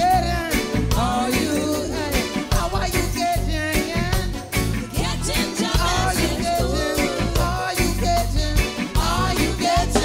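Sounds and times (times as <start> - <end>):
song with upbeat beat: 0.0 - 10.0.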